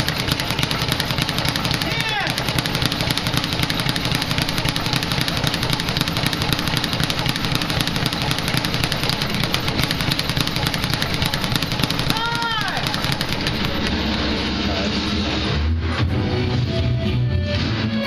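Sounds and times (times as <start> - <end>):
speed bag rattling: 0.0 - 14.6.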